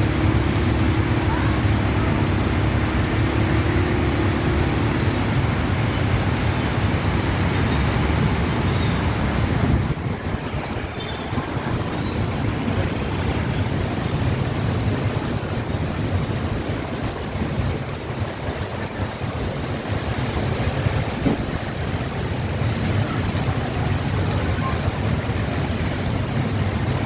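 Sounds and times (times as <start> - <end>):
heavy rain falling: 0.0 - 27.0
wind rumble on microphone: 0.0 - 27.0.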